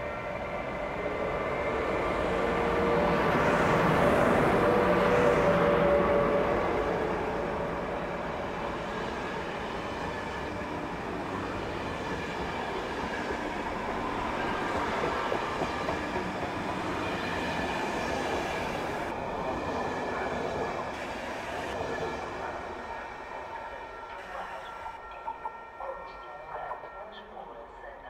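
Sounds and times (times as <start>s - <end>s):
train wheels rumbling on rail: 0.0s - 25.6s.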